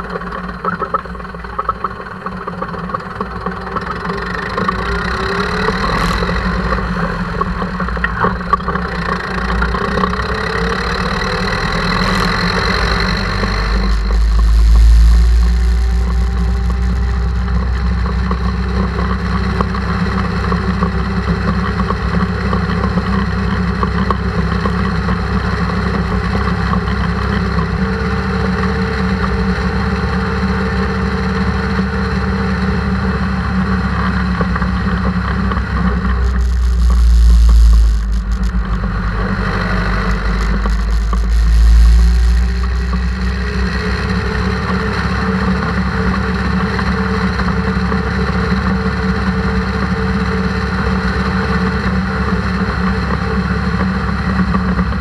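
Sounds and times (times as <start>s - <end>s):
passing tractor rush: 0.0s - 55.0s
tractor diesel engine running: 0.0s - 55.0s.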